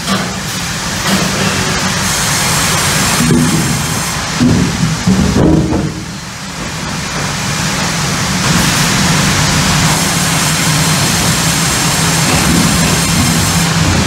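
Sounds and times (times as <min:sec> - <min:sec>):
machinery running: 0:00.0 - 0:14.0.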